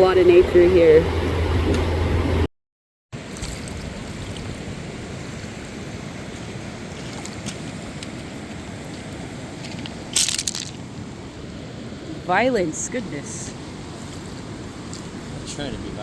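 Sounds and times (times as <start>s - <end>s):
river rushing: 3.2s - 16.0s.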